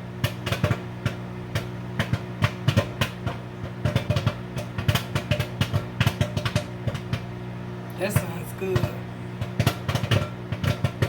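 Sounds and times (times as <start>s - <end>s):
microwave oven humming: 0.0s - 11.0s
popcorn popping in paper bag: 0.0s - 11.0s.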